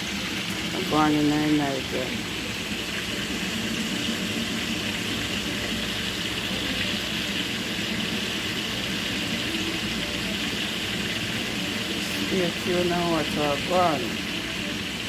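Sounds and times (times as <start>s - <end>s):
food hissing in a pot: 0.0s - 15.0s.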